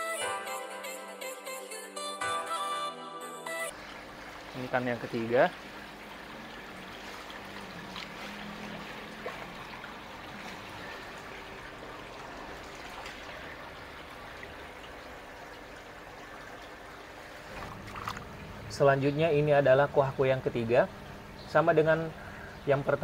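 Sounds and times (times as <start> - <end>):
pond water trickling: 3.7 - 23.0.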